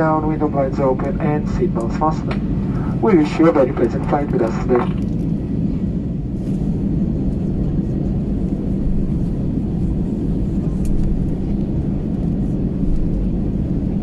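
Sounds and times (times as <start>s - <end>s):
airliner engines and airflow rumble: 0.0s - 14.0s.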